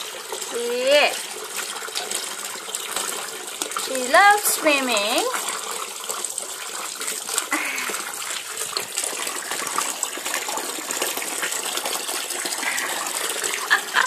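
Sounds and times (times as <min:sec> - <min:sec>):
water pouring into a plastic basin: 0:00.0 - 0:14.0.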